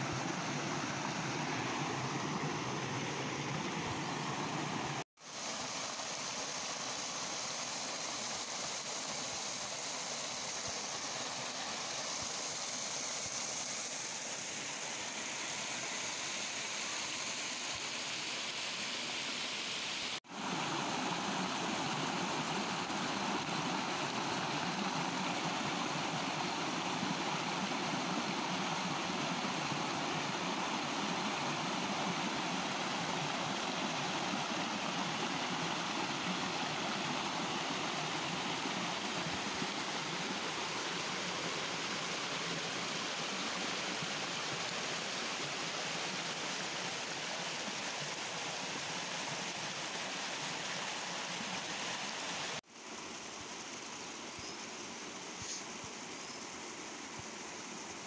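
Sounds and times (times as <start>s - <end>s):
stream water rushing over rocks: 0.0s - 54.0s.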